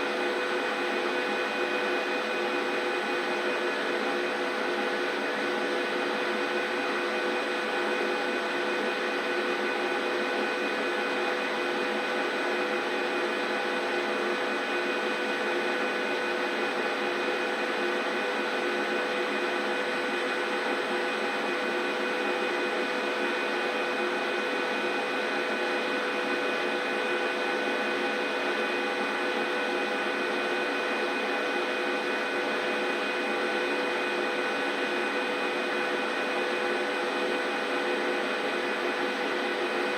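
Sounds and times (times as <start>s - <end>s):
washing machine humming and whining: 0.0s - 39.9s.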